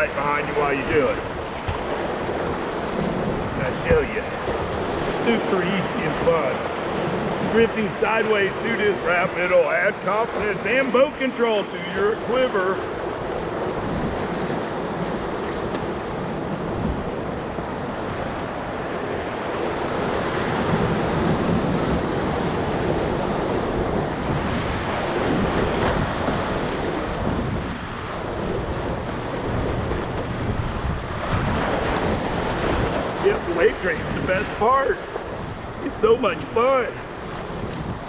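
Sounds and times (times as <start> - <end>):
rushing whitewater: 0.0 - 38.0
wind buffeting microphone: 0.0 - 38.0.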